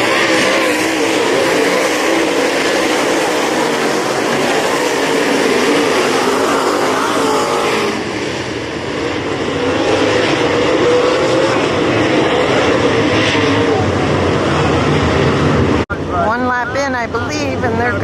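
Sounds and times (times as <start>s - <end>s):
race car engine running: 0.0s - 15.9s.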